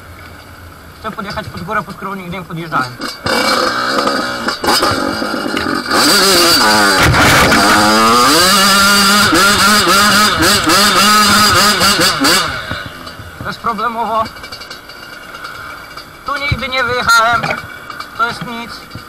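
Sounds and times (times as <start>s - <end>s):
dirt bike engine revving: 0.3s - 19.0s.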